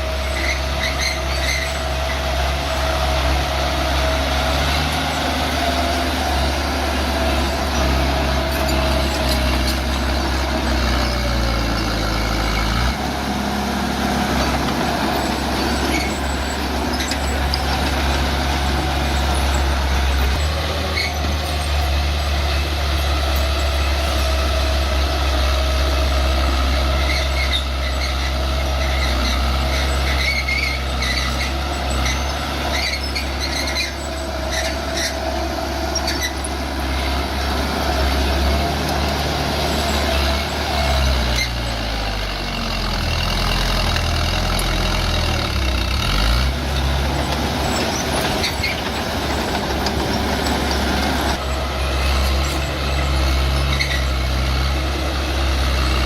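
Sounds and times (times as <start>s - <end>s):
machine squealing: 0.0s - 13.0s, 14.0s - 24.8s, 25.4s - 41.8s, 45.5s - 54.7s
bulldozer diesel engine: 0.0s - 56.0s.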